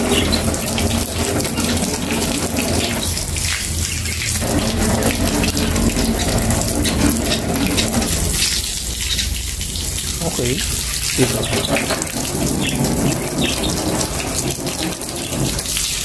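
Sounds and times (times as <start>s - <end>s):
hose water spraying on car: 0.0s - 16.0s
water splashing on ground: 0.0s - 16.0s.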